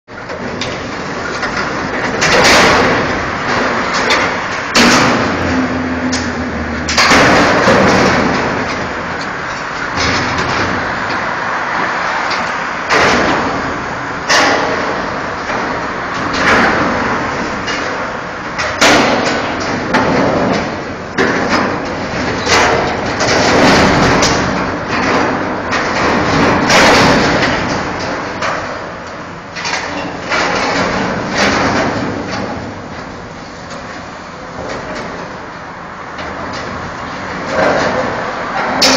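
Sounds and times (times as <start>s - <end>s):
heavy machine noise: 0.1s - 38.9s
metal crashing and banging: 0.3s - 33.2s, 36.2s - 38.9s.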